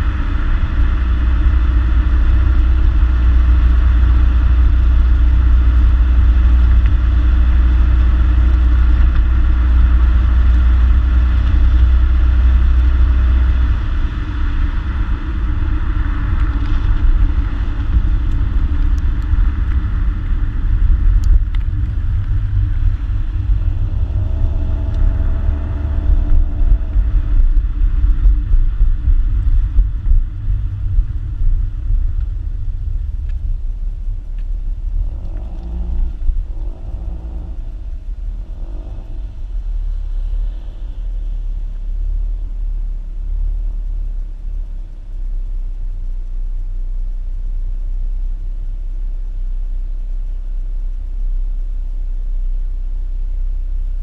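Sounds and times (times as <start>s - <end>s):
car exhaust drone while driving: 0.0s - 54.0s.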